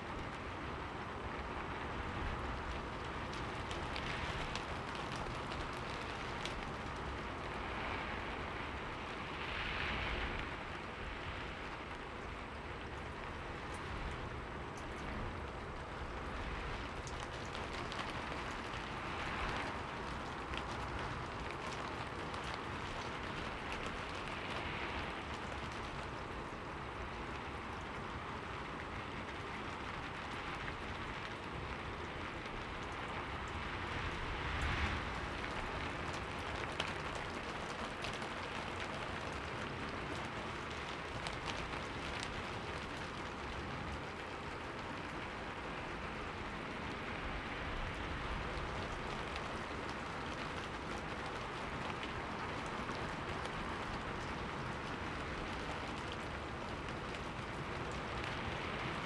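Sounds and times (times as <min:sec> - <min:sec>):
rain falling on a window: 0:00.0 - 0:59.0.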